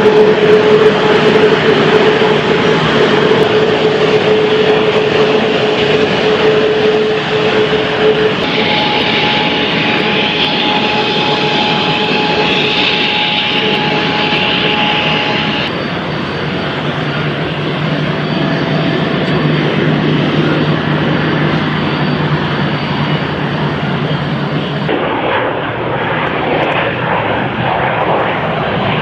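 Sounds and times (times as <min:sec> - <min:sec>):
jet engine whine: 0:00.0 - 0:29.0
jet engines roaring: 0:00.0 - 0:29.0.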